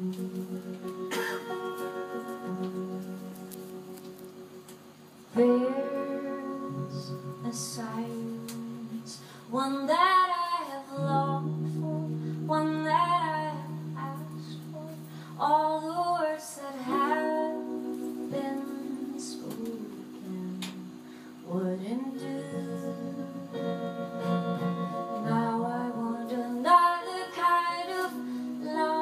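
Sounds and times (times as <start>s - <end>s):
woman singing folk song: 0.0s - 3.2s, 5.3s - 29.0s
held instrumental notes: 0.0s - 29.0s.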